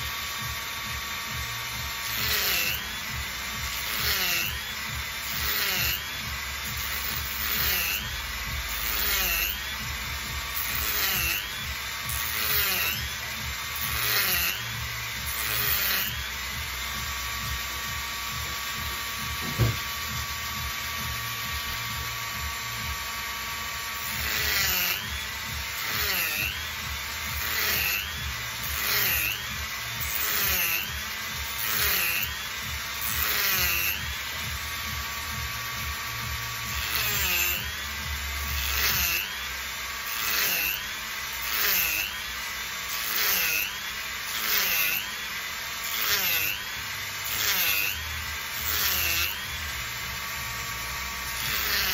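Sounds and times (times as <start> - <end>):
rotary tool cutting shell: 0.0 - 51.9.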